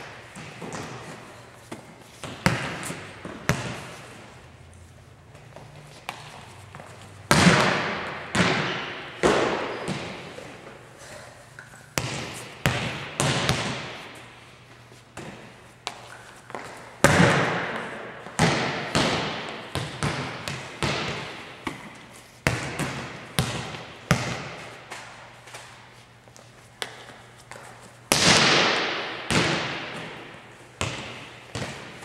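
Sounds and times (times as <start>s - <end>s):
volleyball smacks echoing in gym: 0.0s - 4.2s, 5.3s - 10.8s, 11.6s - 14.4s, 15.1s - 25.8s, 26.8s - 32.0s.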